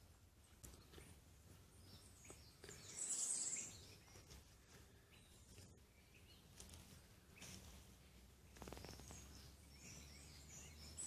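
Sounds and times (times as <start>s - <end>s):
faint bird chirps: 0.4s - 11.0s.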